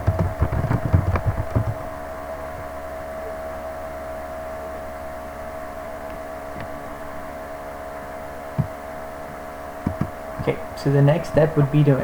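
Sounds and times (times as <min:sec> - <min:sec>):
steady background hum with tones: 0:00.0 - 0:12.0.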